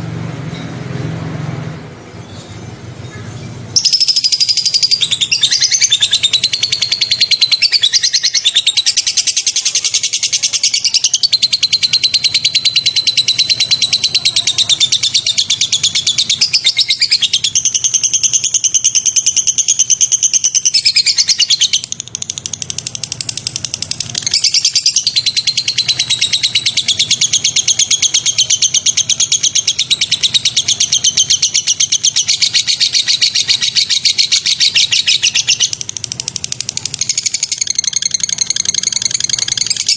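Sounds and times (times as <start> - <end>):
bird trilling: 2.2 - 39.9.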